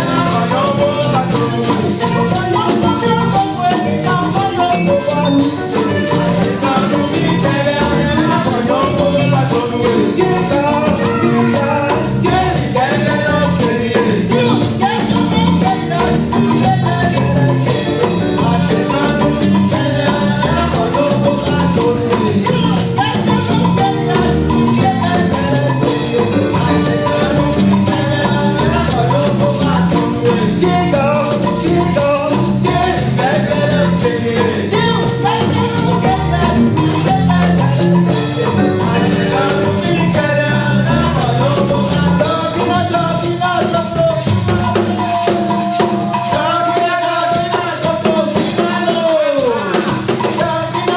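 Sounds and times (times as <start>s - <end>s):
music with percussion beat: 0.0s - 50.9s.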